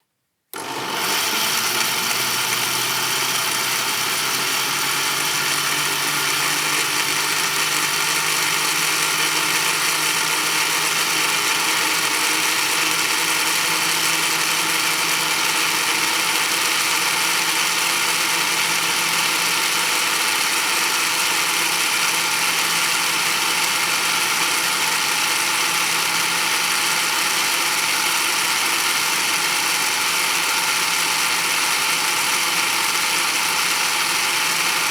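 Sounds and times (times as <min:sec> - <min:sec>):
blender motor whine: 0:00.5 - 0:34.9.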